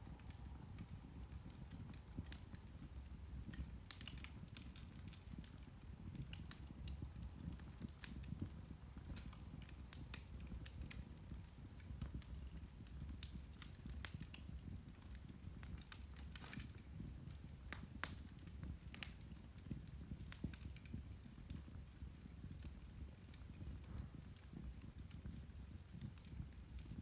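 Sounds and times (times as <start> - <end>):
peat fire crackling and popping: 0.0 - 27.0.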